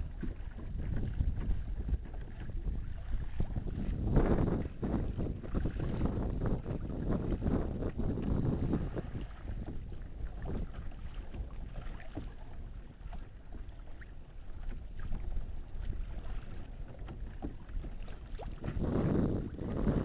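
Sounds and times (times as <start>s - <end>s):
water lapping against kayak hull: 0.0s - 20.0s
wind rumble on microphone: 0.0s - 20.0s.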